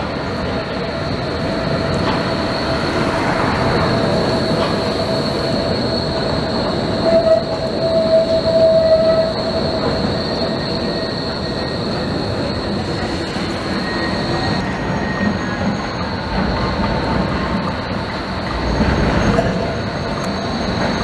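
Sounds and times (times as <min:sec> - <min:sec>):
tram rolling noise: 0:00.0 - 0:21.0
tram wheels squealing on rails: 0:00.0 - 0:21.0.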